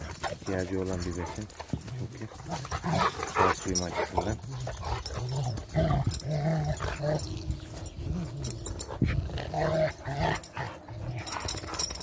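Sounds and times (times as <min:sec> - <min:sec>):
dogs growling: 0:00.0 - 0:12.0.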